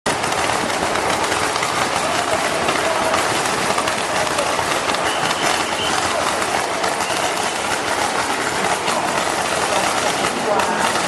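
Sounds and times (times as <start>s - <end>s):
firecrackers crackling: 0.1s - 11.0s.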